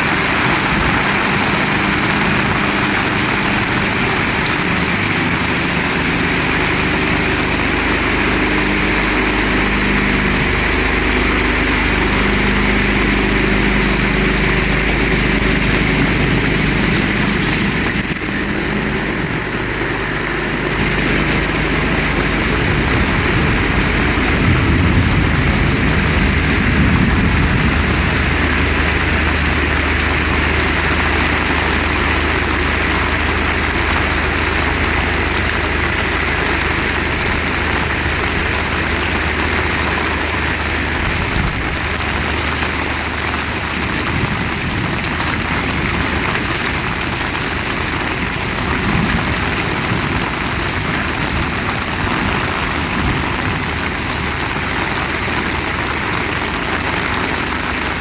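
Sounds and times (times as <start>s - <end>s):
heavy rain falling: 0.0s - 58.0s
low steady hum: 0.0s - 58.0s.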